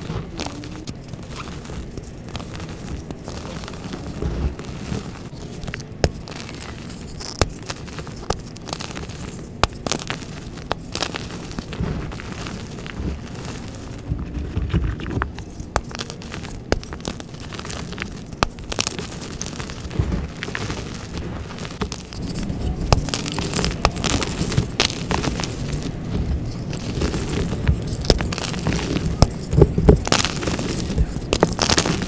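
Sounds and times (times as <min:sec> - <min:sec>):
hands crushing chalk blocks: 0:00.0 - 0:32.0.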